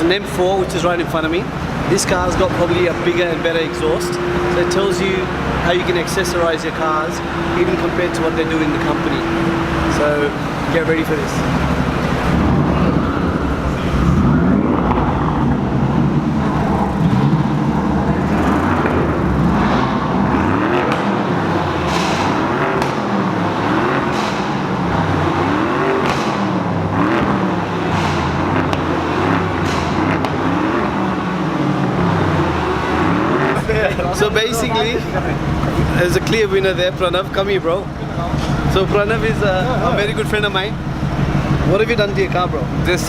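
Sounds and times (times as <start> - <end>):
car engines revving: 0.0 - 43.0
exhaust cracks: 0.0 - 43.0.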